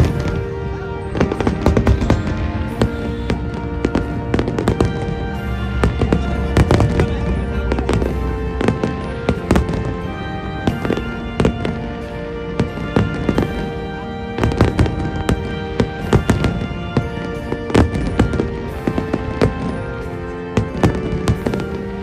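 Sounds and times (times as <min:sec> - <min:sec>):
fireworks bursting with bangs: 0:00.0 - 0:22.0
music with sustained notes: 0:00.0 - 0:22.0.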